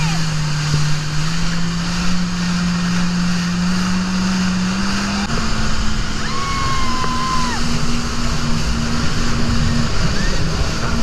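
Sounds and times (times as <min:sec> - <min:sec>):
jet ski engine running: 0:00.0 - 0:11.0
water spray rushing: 0:00.0 - 0:11.0
wind: 0:00.0 - 0:11.0.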